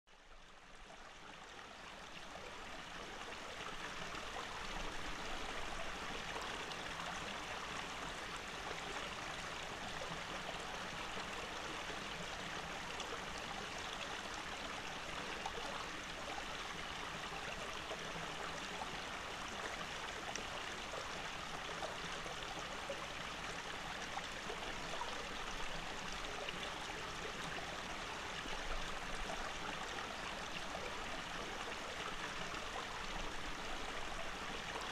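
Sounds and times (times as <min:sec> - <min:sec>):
stream running over rocks: 0:00.2 - 0:34.9.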